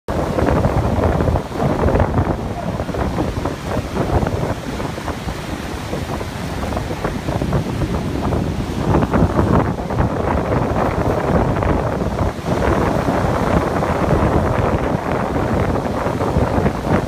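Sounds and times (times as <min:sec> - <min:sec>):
ocean surf breaking: 0:00.1 - 0:17.0
wind buffeting microphone: 0:00.1 - 0:17.0.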